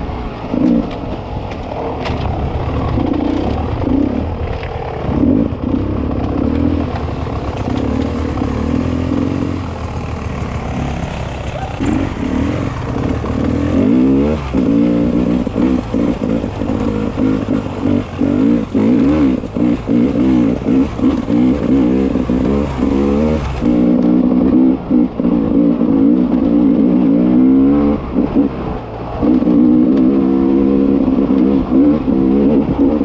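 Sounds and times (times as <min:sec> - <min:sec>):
two-stroke motorcycle engine revving: 0:00.2 - 0:01.2, 0:01.8 - 0:33.0.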